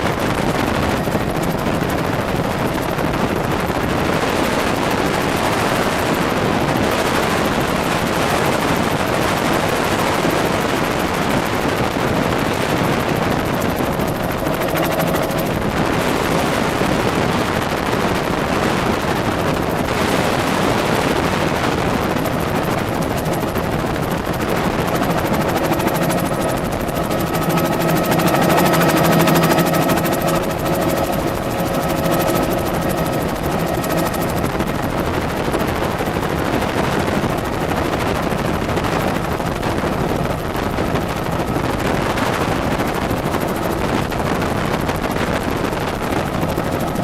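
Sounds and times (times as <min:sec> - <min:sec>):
helicopter rotor and engine: 0:00.0 - 0:47.0.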